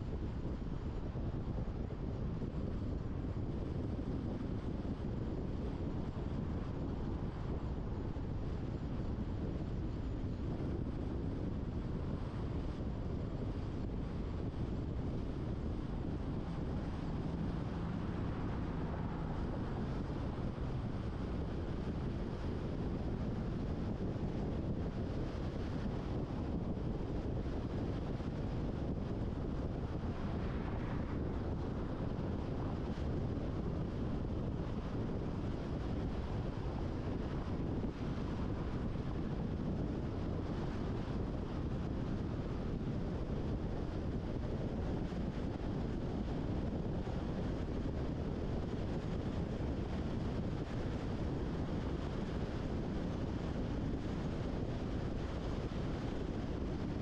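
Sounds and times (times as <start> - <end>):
wind buffeting microphone: 0.0 - 57.0
car road noise rumble: 1.7 - 57.0.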